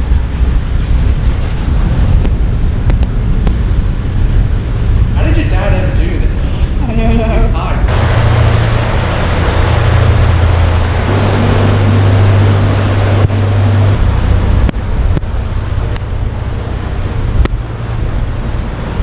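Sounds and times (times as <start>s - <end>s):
boat diesel engine humming: 0.0s - 6.4s, 7.9s - 19.0s.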